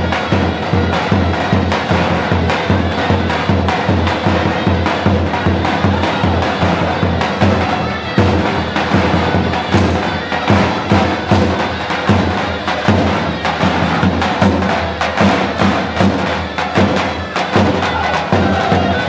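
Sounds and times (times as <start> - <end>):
drum beat: 0.0 - 19.0
folk dance music: 0.0 - 19.0.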